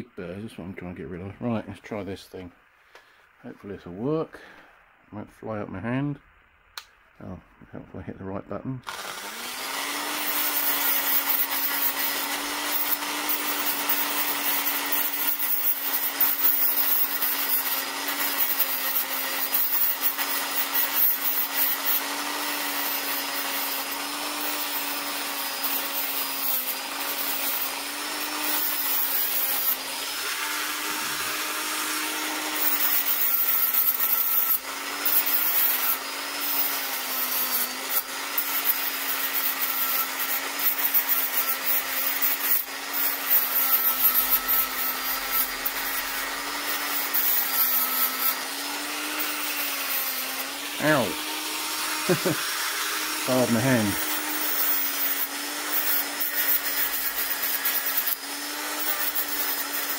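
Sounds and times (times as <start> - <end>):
rotary tool grinding metal: 8.8 - 59.9.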